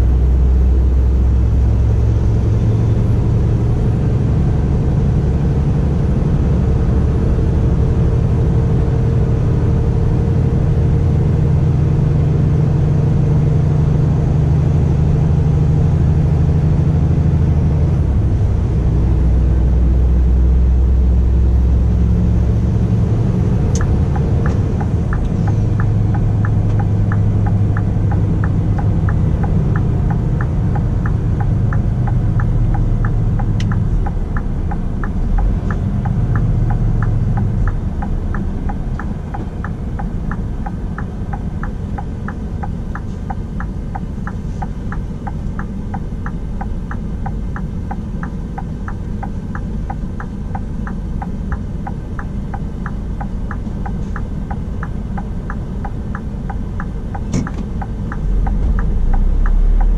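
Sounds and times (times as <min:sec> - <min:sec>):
diesel truck engine rumbling: 0:00.0 - 0:59.9
turn signal ticking: 0:00.4 - 0:59.9.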